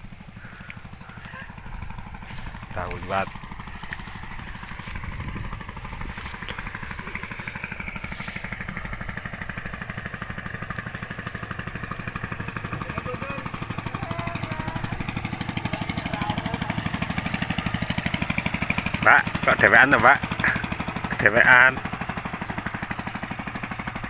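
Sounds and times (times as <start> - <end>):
small engine putter: 0.0 - 24.0.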